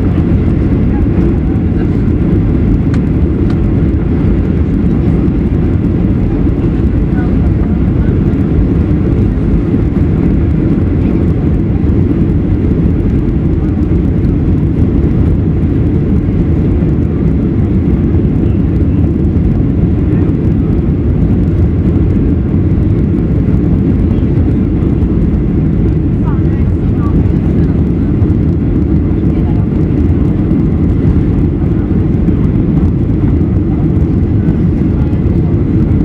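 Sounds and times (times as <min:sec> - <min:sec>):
air rushing over wing: 0:00.0 - 0:36.0
jet engines in cabin: 0:00.0 - 0:36.0.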